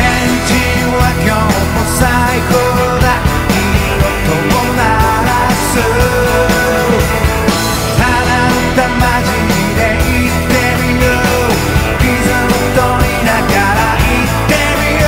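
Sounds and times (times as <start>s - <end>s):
rock song with full band: 0.0s - 15.0s.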